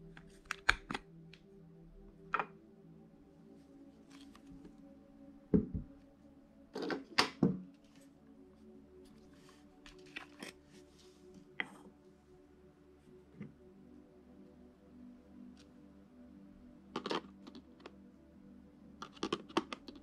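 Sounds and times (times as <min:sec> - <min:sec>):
quiet background music: 0:00.0 - 0:20.0.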